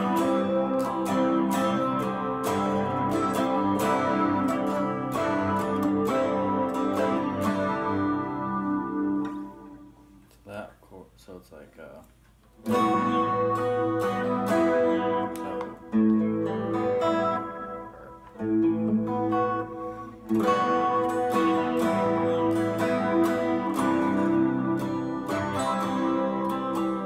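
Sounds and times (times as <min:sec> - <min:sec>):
electric guitar chords ringing: 0:00.0 - 0:10.2, 0:12.6 - 0:27.0.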